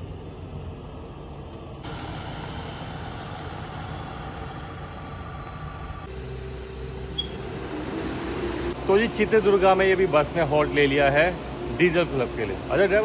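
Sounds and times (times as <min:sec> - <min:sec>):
diesel bus engine rumbling: 0:00.0 - 0:13.0
engine hiss: 0:00.0 - 0:13.0.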